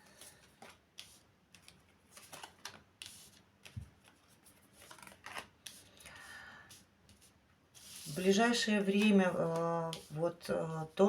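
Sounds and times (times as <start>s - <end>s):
cards being shuffled: 0.1s - 10.5s.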